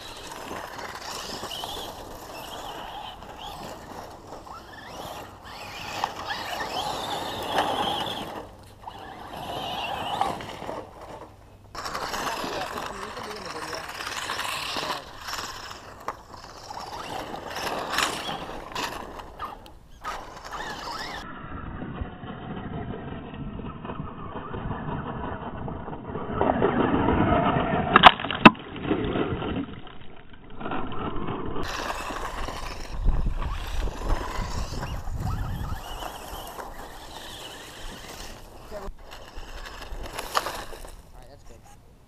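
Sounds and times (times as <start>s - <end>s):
electric rc truck driving on dirt: 0.0s - 41.9s.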